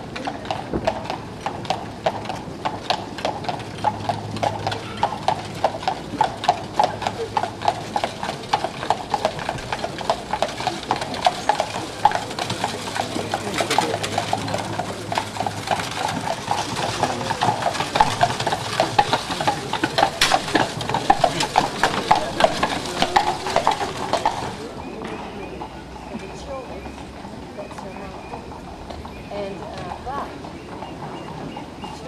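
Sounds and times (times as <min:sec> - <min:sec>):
horse hooves clip-clopping: 0:00.0 - 0:32.0.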